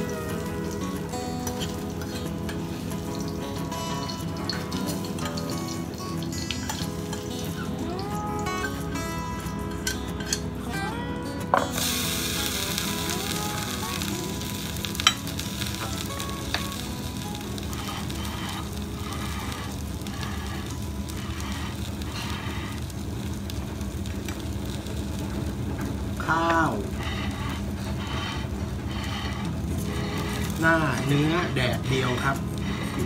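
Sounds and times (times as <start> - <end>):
butter and meat sizzling: 0.0 - 10.8, 11.6 - 33.0.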